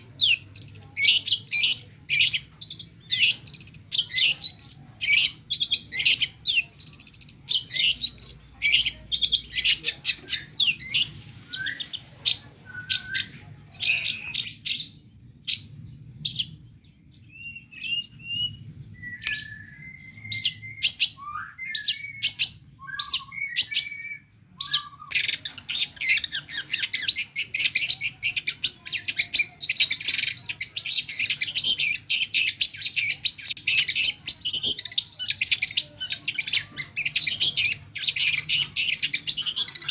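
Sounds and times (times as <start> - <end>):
bird singing rapid chattering song: 0.0 - 39.9
whistled bird notes: 0.0 - 39.9.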